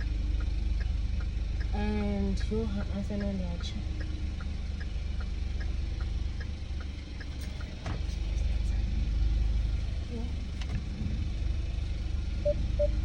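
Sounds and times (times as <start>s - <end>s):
car engine and road rumble: 0.0s - 13.0s
turn signal ticking: 0.0s - 13.0s.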